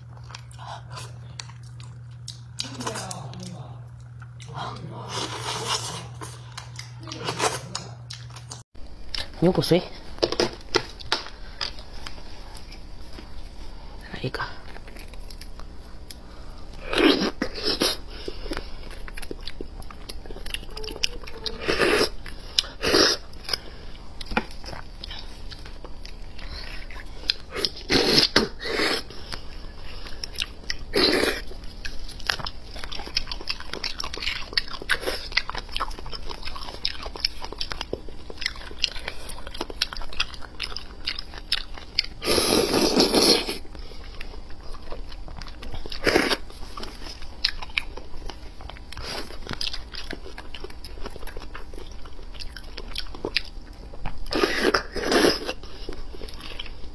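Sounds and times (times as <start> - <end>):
wet chewing: 0.0 - 9.4, 17.0 - 56.9.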